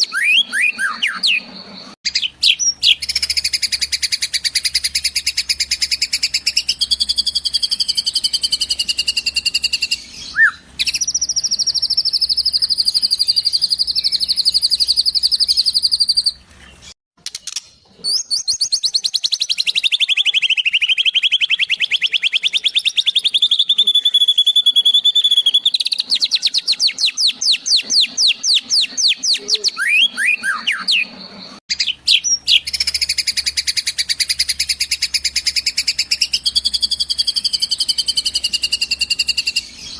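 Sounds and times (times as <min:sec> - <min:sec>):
high-pitched bird trills and chirps: 0:00.0 - 0:39.9.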